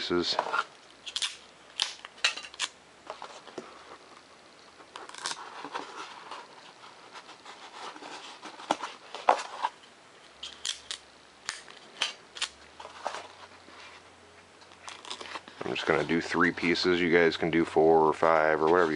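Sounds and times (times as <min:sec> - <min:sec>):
tape clicks and crackles: 0:00.3 - 0:13.5, 0:14.4 - 0:16.8.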